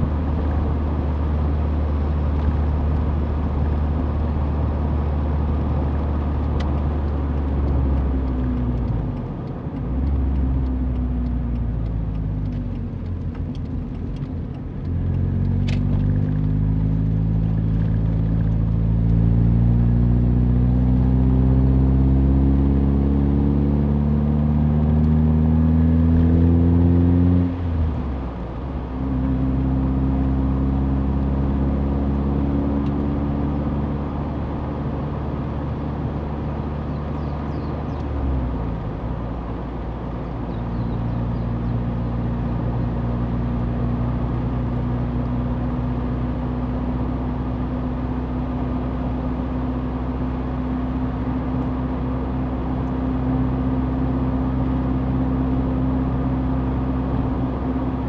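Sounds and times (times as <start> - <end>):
car engine accelerating: 0.0 - 58.0
road and tyre noise: 0.0 - 58.0.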